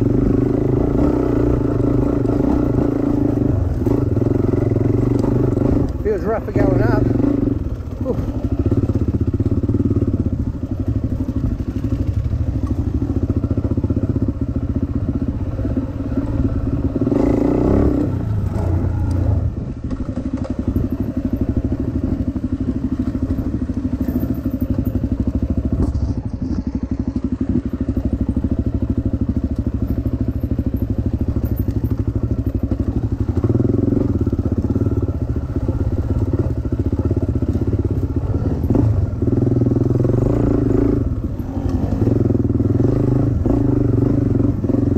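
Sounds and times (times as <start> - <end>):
dirt bike engine revving: 0.0 - 29.4, 30.2 - 44.9.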